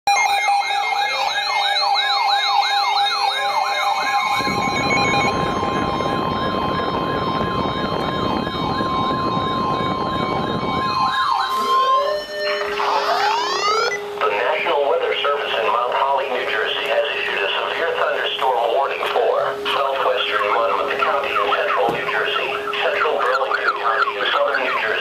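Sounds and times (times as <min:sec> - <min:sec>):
electronic sirens yelping: 0:00.1 - 0:25.0.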